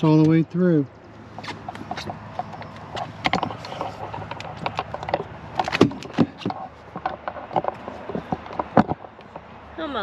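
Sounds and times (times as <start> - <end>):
aluminium ladder being climbed: 1.4 - 9.4
camera handling knocks: 1.4 - 9.5.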